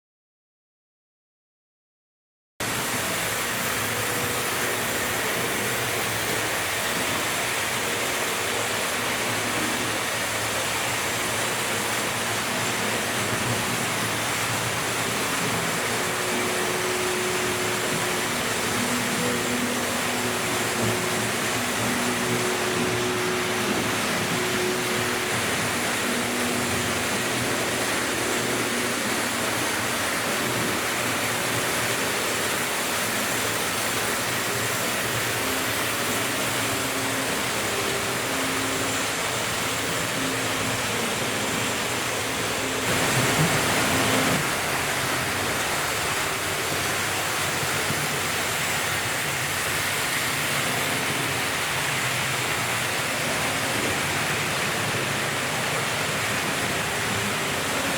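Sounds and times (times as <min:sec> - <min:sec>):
model train wheels on track: 0:02.6 - 0:57.9
electric motors humming: 0:02.7 - 0:57.9.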